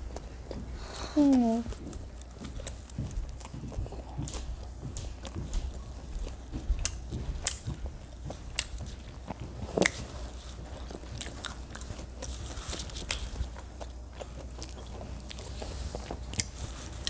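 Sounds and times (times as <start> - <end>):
chewing crunchy sandwich: 0.0 - 17.0.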